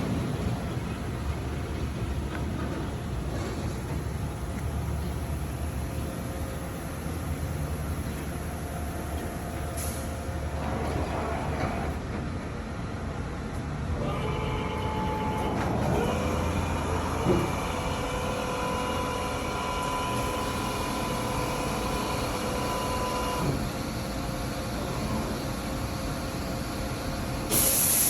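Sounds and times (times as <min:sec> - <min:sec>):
boring mill machine drone: 0:00.0 - 0:12.2, 0:12.8 - 0:27.5.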